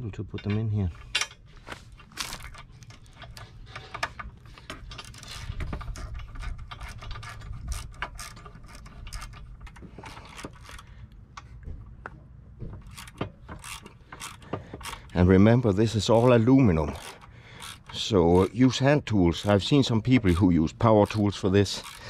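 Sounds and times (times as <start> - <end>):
hand ratchet clicking: 2.2 - 10.9, 12.8 - 22.0.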